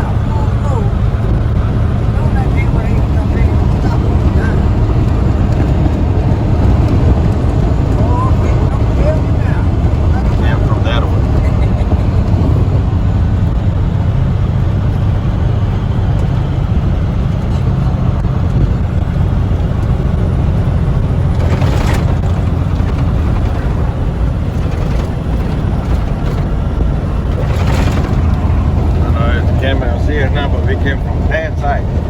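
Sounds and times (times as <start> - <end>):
diesel engine rumble: 0.0 - 32.0
road noise: 0.0 - 32.0.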